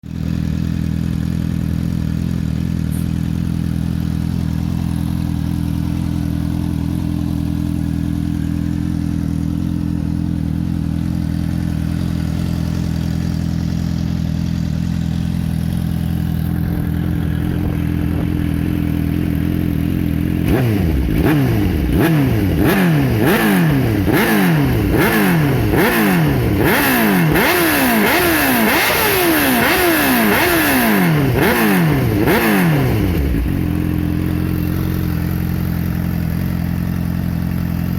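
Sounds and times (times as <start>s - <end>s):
motorcycle engine idling: 0.0s - 37.9s
motorcycle engine revving: 0.0s - 37.9s.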